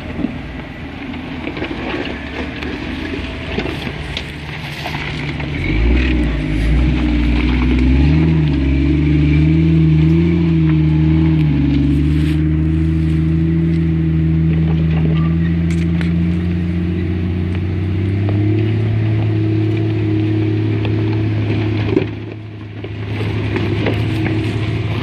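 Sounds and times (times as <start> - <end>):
car engine running at low revs: 0.0 - 25.0.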